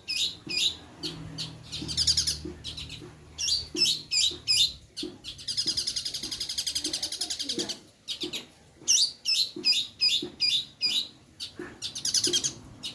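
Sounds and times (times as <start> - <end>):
bird singing trills and chirps: 0.0 - 12.9.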